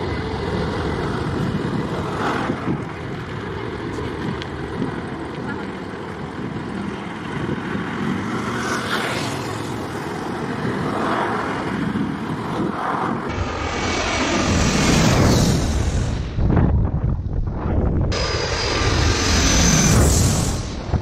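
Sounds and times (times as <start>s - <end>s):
jet airliner engines: 0.0s - 21.0s.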